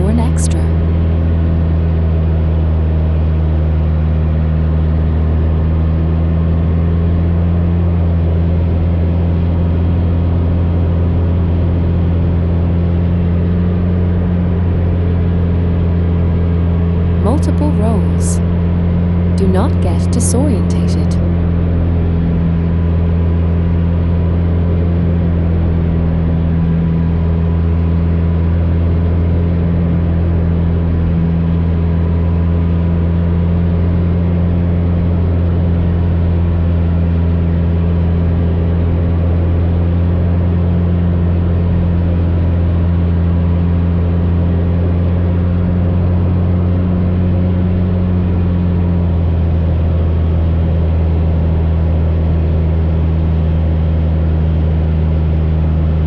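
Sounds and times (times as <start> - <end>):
propeller plane engine in flight: 0.0 - 56.0.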